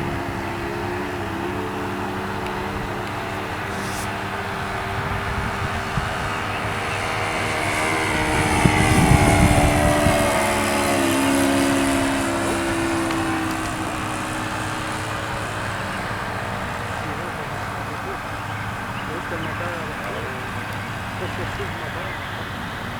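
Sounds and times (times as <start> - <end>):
model airplane engine passing by: 0.0 - 22.9.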